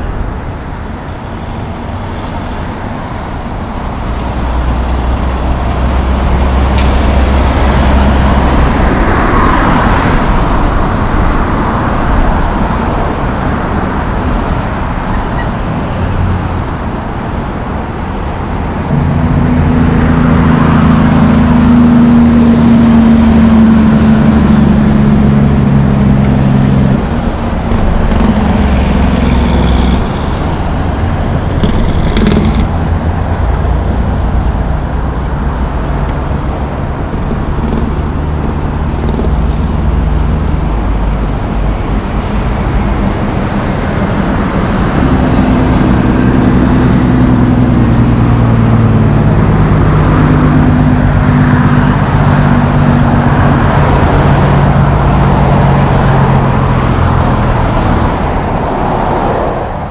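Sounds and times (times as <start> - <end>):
truck diesel engine droning: 0.0 - 59.9
truck passing: 0.0 - 59.9.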